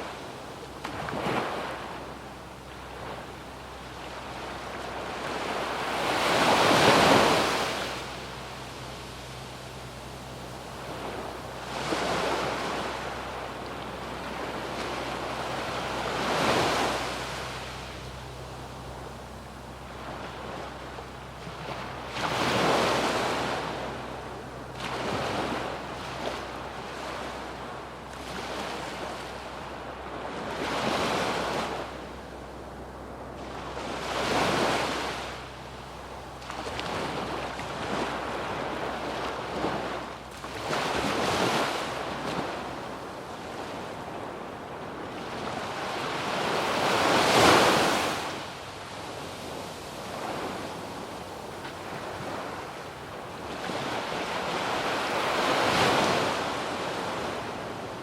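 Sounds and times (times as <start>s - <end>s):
small waves breaking on beach: 0.0s - 18.6s, 19.9s - 32.7s, 33.4s - 58.0s.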